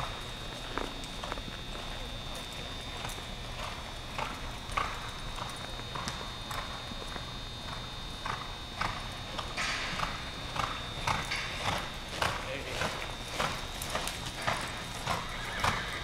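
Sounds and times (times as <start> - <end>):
horse hoofbeats on dirt: 0.0 - 16.0.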